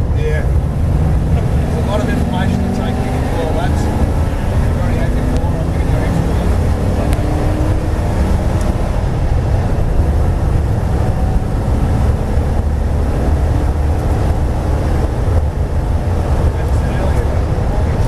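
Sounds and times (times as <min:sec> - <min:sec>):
race car engine drone: 0:00.0 - 0:18.0
wind and road noise: 0:00.0 - 0:18.0.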